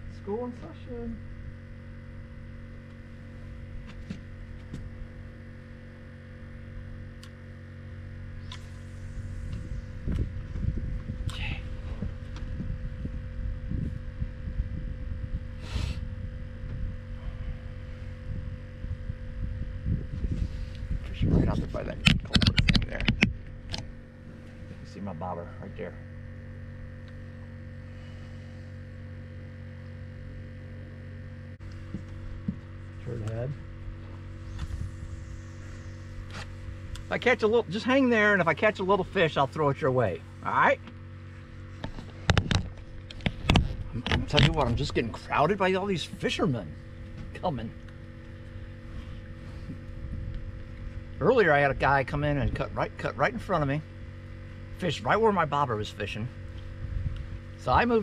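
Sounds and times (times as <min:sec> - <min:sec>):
steady low hum: 0:00.0 - 0:58.0
low rumbling thumps: 0:08.3 - 0:29.4, 0:31.6 - 0:55.4, 0:56.3 - 0:58.0.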